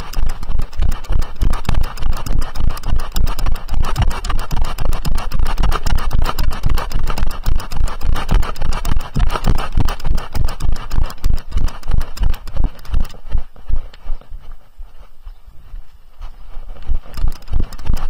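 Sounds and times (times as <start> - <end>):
gear rattling: 0.0 - 14.2, 16.7 - 18.0
horse hooves on hard path: 0.0 - 18.0.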